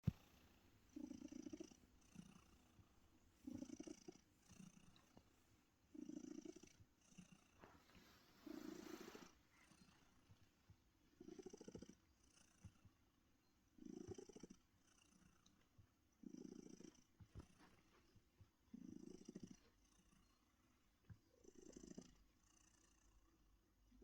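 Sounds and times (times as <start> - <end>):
cat purring: 0.0 - 24.0.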